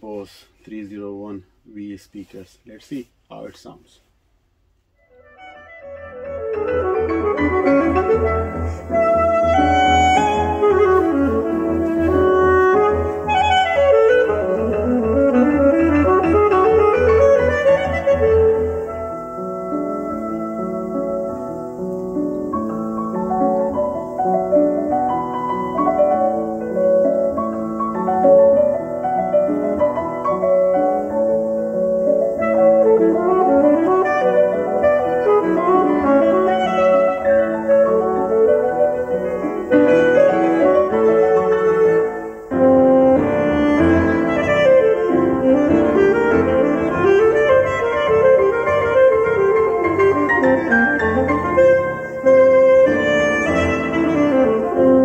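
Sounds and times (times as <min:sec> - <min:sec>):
piano music over loudspeakers: 0:05.0 - 0:55.0.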